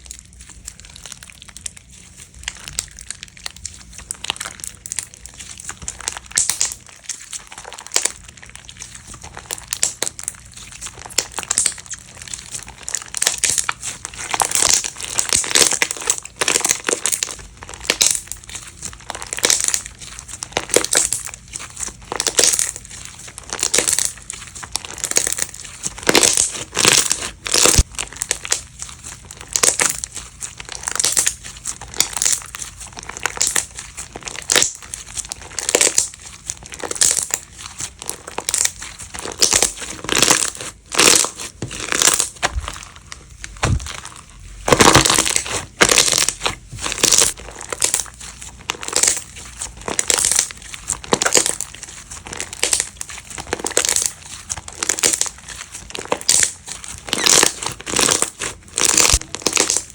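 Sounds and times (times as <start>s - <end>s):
slime squishing crackles: 0.0s - 59.9s.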